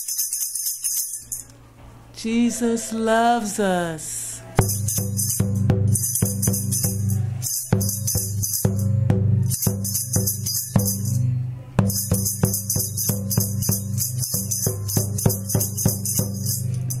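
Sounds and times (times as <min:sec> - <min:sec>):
rhythmic metallic jingling: 0:00.0 - 0:01.5, 0:04.6 - 0:17.0.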